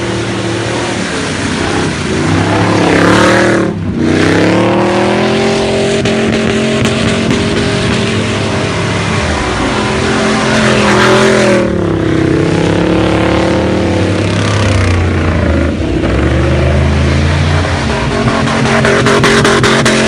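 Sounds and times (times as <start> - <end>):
car engine revving: 0.0 - 20.0
tyres churning mud: 0.0 - 20.0.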